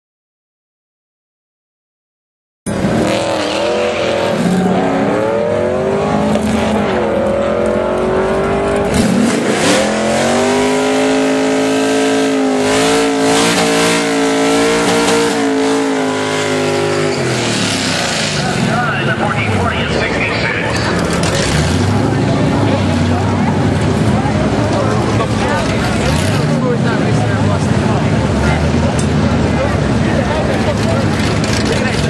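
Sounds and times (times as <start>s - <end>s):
car engine revving: 2.7s - 32.0s.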